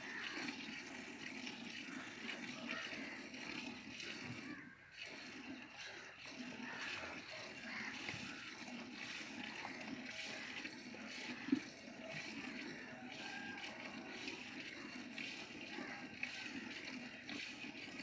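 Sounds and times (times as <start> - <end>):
milk splashing into a pail: 0.0 - 18.0.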